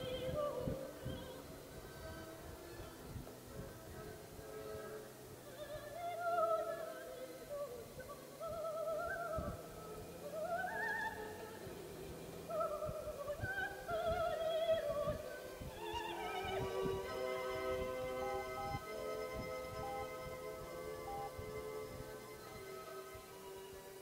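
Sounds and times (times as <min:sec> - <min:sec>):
operatic singing: 0:00.0 - 0:24.0
sustained musical accompaniment: 0:00.0 - 0:24.0.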